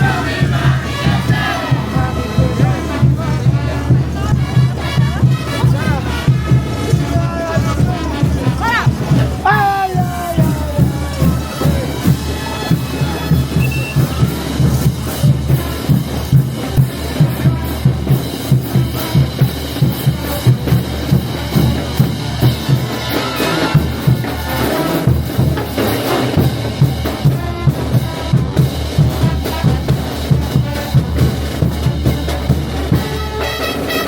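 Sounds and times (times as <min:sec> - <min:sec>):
bass drum and snare marching beat: 0:00.0 - 0:34.0
brass lines: 0:00.0 - 0:34.0.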